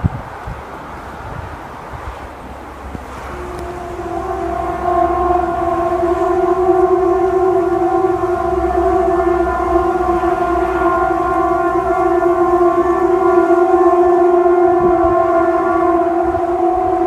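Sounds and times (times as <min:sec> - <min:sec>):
loud horn-like drone: 0:01.1 - 0:17.0.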